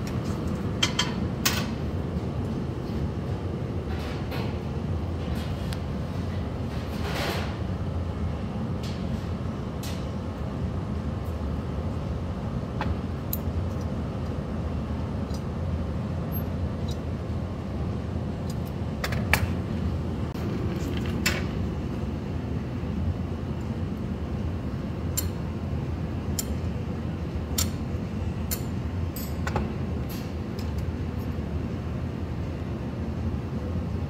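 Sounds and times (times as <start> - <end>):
low roar of furnace equipment: 0.0 - 34.0.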